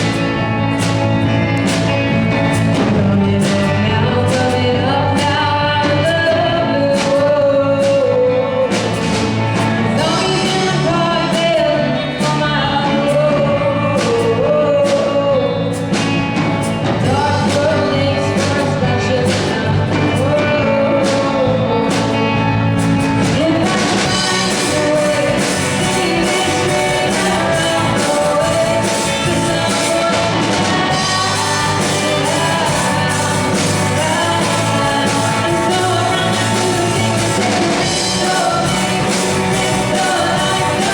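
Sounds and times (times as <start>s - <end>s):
drums steady beat: 0.0s - 40.9s
lead singer singing: 0.0s - 40.9s
live rock band: 0.0s - 40.9s.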